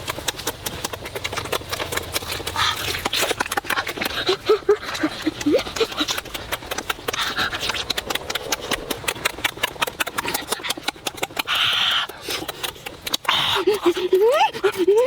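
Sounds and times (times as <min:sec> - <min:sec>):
person chewing and crunching food: 0:00.0 - 0:15.0.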